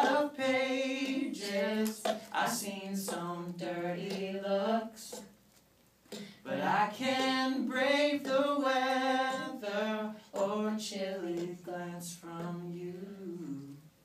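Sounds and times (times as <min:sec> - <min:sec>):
woman singing a slow song: 0:00.0 - 0:05.3, 0:06.4 - 0:13.9.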